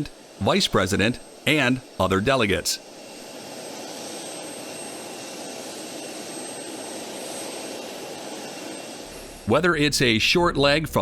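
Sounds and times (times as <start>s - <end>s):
aircraft turbine engine hiss: 0.0s - 11.0s.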